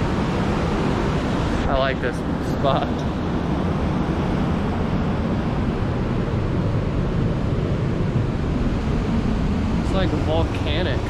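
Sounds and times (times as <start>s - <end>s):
ocean surf: 0.0s - 11.0s
wind rumbling on microphone: 0.0s - 11.0s.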